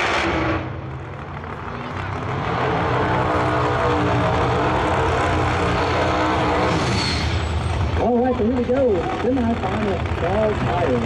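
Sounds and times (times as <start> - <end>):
drag racing car engines: 0.0 - 11.0.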